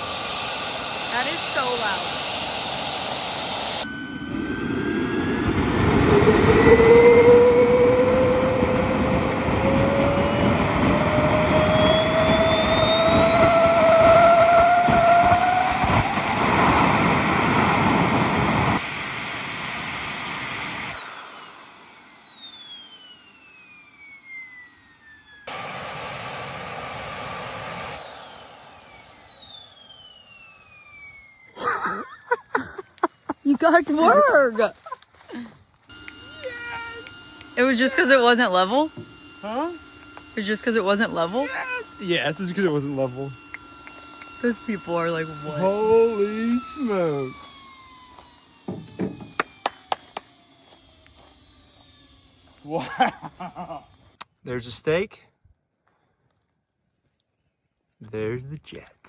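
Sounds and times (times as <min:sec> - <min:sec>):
small jet engine whine: 0:00.0 - 0:54.2.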